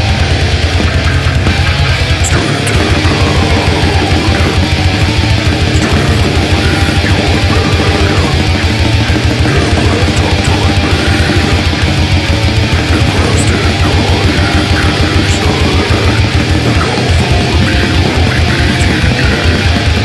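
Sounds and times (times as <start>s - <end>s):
distorted electric guitars: 0.0s - 20.0s
fast drumming: 0.0s - 20.0s.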